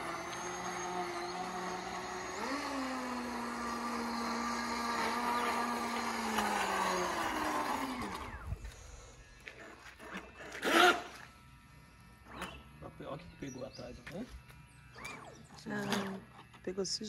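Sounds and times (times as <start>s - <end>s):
electric boat motor whine: 0.0s - 17.0s.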